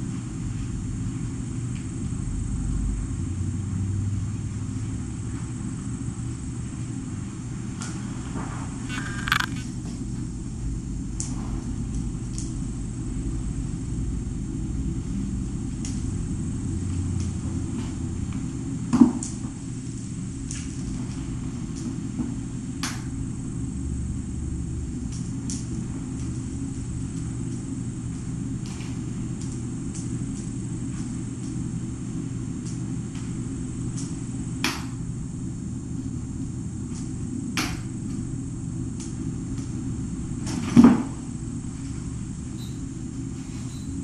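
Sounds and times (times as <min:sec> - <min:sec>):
low room rumble: 0:00.0 - 0:44.0.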